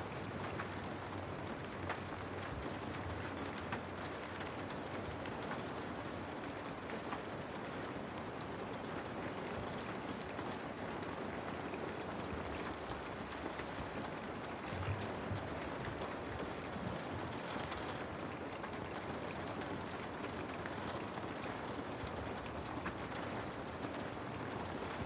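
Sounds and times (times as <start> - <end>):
rain on a window: 0.0 - 25.0.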